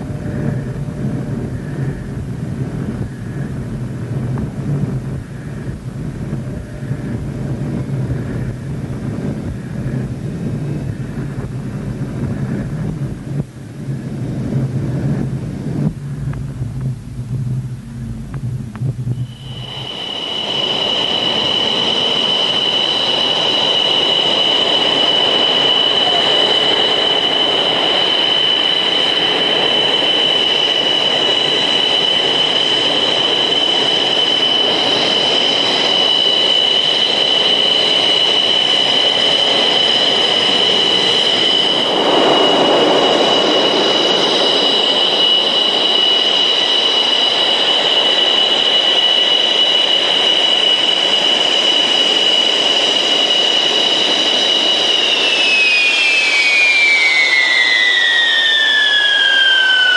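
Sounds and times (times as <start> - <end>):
jet engine rush: 0.0 - 59.9
jet turbine whine: 0.0 - 59.9.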